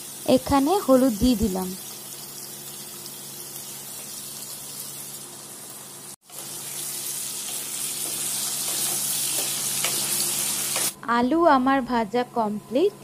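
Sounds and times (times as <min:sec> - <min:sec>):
potatoes frying in hot oil: 0:00.0 - 0:11.0.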